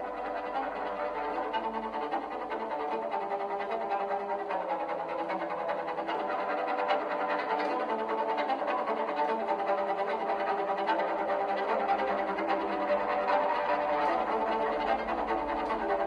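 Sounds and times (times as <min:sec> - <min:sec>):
bowed strings led by violin: 0:00.0 - 0:16.0.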